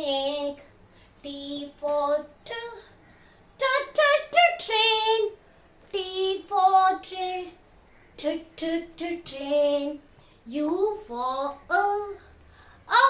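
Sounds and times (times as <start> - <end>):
voices singing a phonics song: 0.0 - 3.0, 3.6 - 7.6, 8.2 - 12.3.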